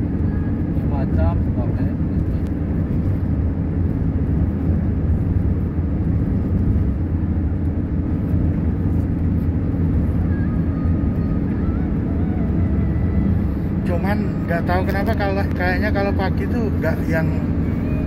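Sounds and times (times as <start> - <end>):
car engine and tyre drone: 0.0 - 18.0.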